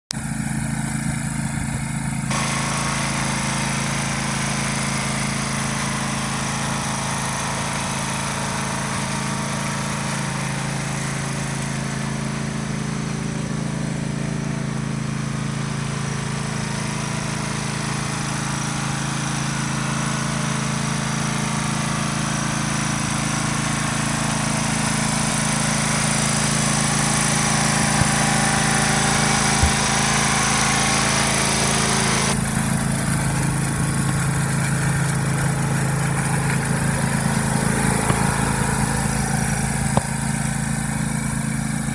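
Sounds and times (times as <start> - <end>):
lawn mower engine running: 0.1 - 41.9.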